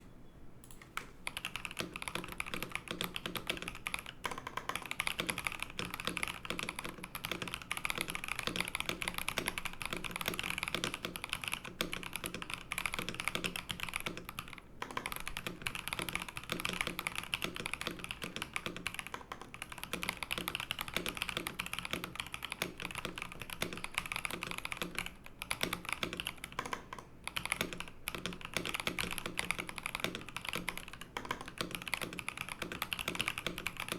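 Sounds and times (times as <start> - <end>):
typing on mechanical keyboard: 0.6 - 33.9.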